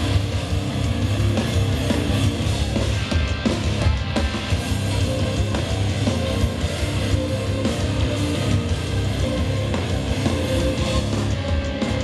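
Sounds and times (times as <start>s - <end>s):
electric guitar: 0.0s - 12.0s
rock band playing live: 0.0s - 12.0s.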